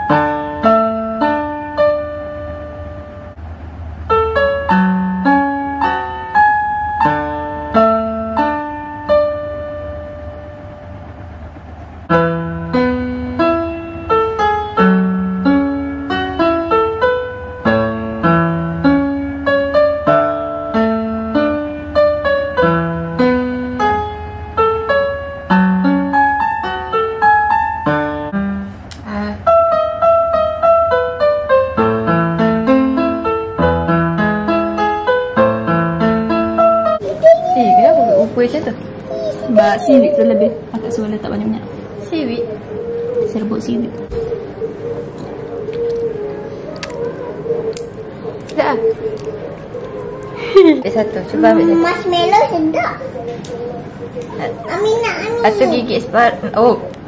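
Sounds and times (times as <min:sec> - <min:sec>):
electronic keyboard piano melody: 0:00.0 - 0:03.4, 0:04.0 - 0:11.0, 0:12.1 - 0:57.0.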